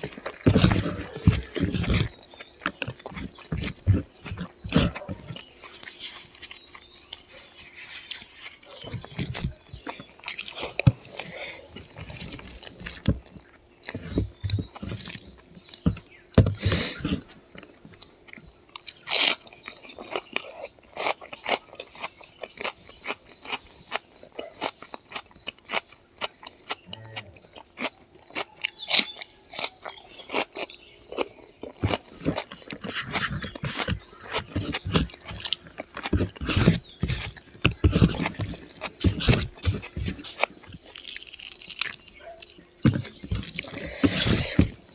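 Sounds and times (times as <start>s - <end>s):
person biting and chewing: 0.0s - 7.3s, 8.0s - 44.9s.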